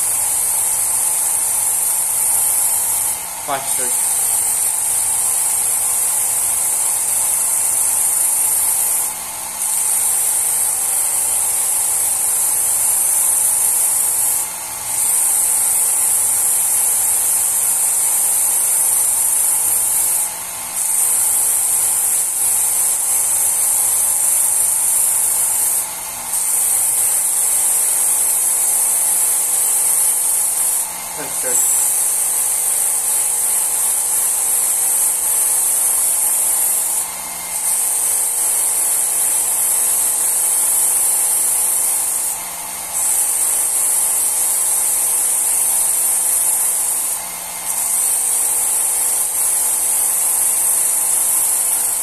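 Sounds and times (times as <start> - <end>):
sharpener motor hum: 0.0 - 52.0.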